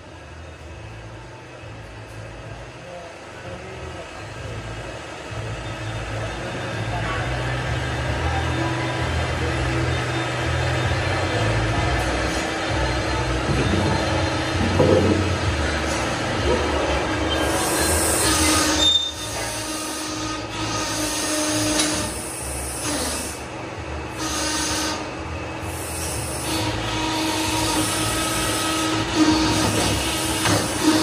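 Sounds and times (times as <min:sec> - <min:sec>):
hydraulic press machine hum: 0:00.0 - 0:31.0.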